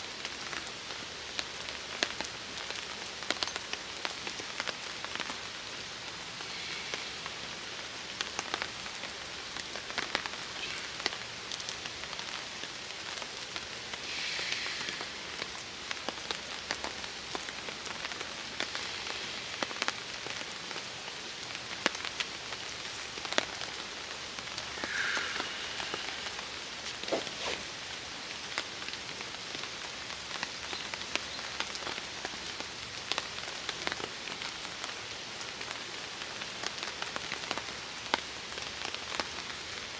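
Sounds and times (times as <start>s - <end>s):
rain falling on a tarp: 0.0s - 39.9s.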